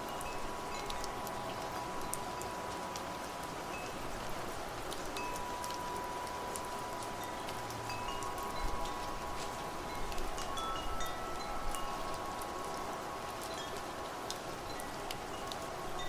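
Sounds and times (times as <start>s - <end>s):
rain hiss: 0.0s - 16.0s
wind chimes ringing: 0.0s - 16.0s.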